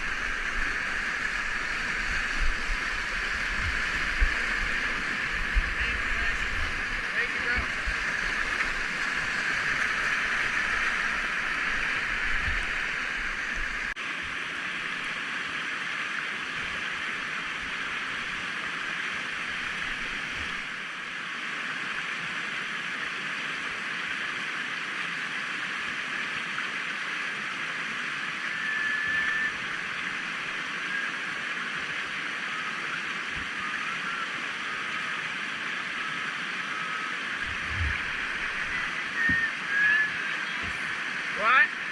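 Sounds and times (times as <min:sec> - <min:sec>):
whitewater river flowing: 0:00.0 - 0:41.9.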